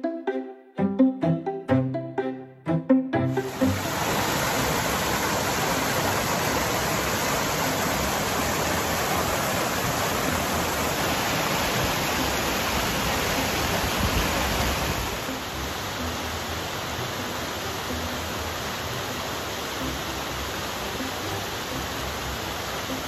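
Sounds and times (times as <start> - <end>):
stream cascading over rocks: 3.3 - 23.0.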